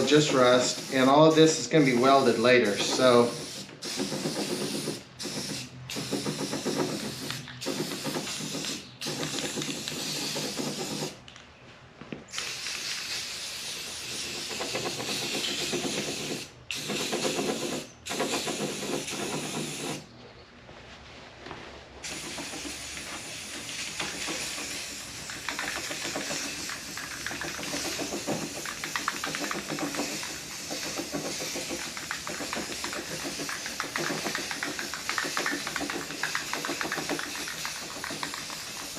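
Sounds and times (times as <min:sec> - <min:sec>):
aerosol can spraying on metal: 0:00.0 - 0:11.2, 0:12.3 - 0:20.0, 0:22.0 - 0:38.9.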